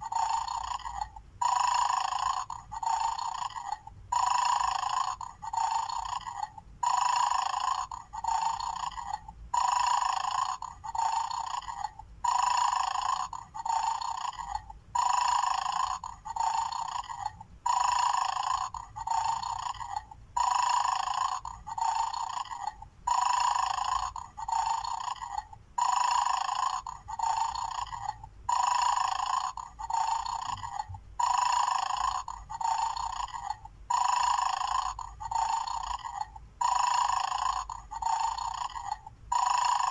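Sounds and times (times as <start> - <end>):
toy speaker dog snoring: 0.0 - 39.9.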